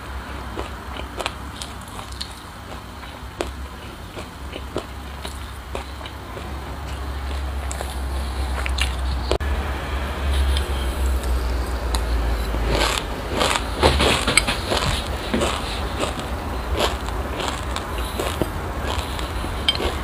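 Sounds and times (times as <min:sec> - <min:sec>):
crunchy chewing: 0:00.0 - 0:09.4, 0:10.3 - 0:20.0
low steady hum: 0:00.0 - 0:20.0.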